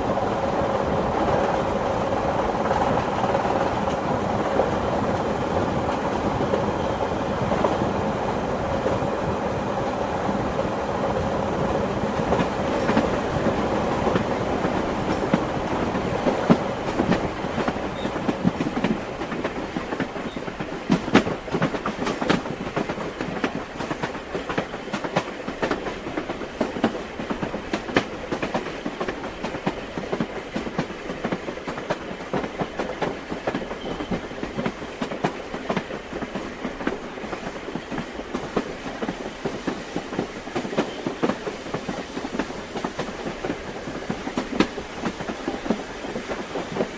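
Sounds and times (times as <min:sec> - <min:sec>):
train wheels clattering: 0:00.4 - 0:46.9.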